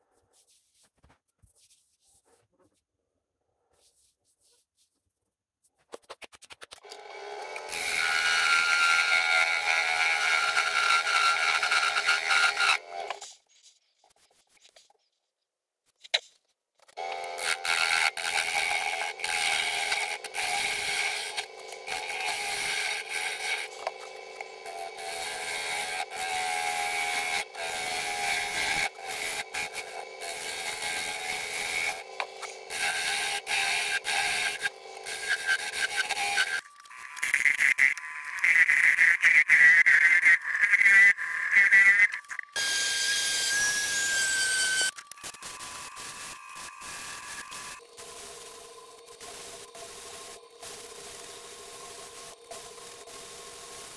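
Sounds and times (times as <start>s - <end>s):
turning tool shaving wood: 6.8s - 13.2s, 17.0s - 53.9s
wood lathe whining: 6.8s - 13.2s, 17.0s - 53.9s.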